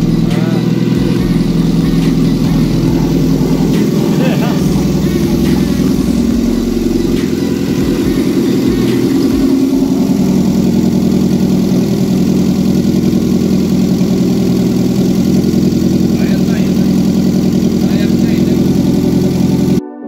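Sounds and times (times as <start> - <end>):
car engine idling: 0.0 - 19.8.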